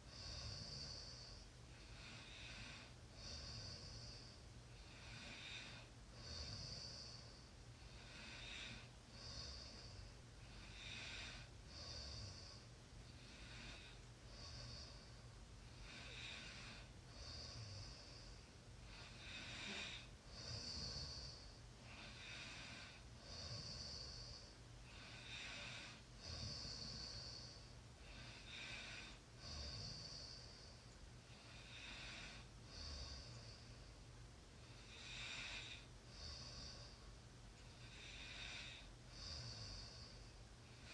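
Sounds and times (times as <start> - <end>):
person snoring softly: 0.0 - 34.0, 34.6 - 40.9.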